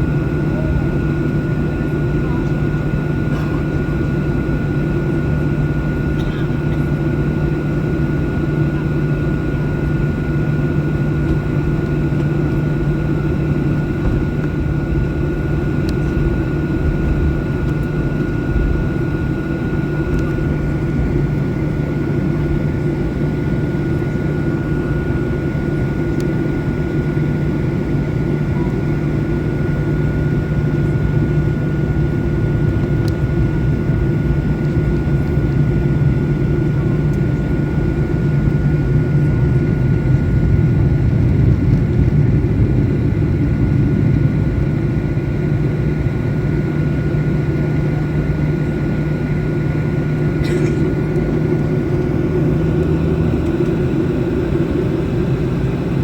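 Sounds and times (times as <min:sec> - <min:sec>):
airliner cabin drone: 0:00.0 - 0:56.0
thin steady whine: 0:00.0 - 0:56.0.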